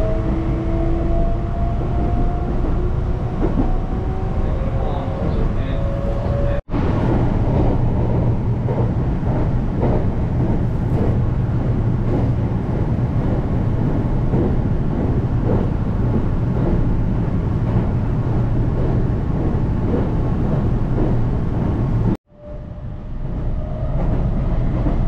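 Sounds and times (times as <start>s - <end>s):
low rumble of wheels on rail: 0.0s - 25.0s.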